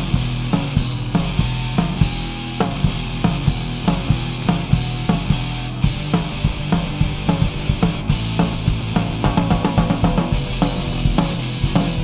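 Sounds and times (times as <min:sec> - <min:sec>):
punk hardcore band playing: 0:00.0 - 0:12.0.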